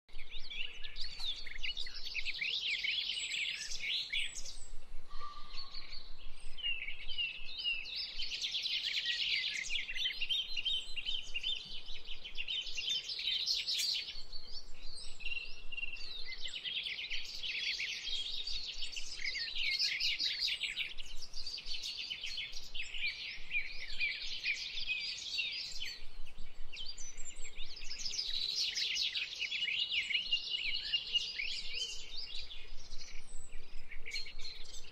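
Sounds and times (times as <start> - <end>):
small birds chirping and twittering: 0.1 - 34.9.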